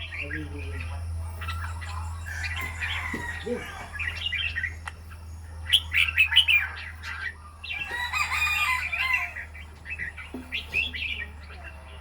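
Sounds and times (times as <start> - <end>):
pet bird chirping: 0.0 - 12.0.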